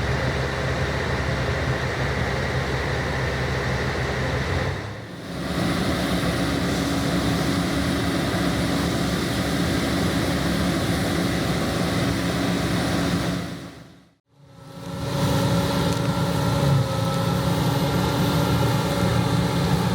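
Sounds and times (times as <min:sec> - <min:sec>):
heavy diesel engine running: 0:00.0 - 0:19.9.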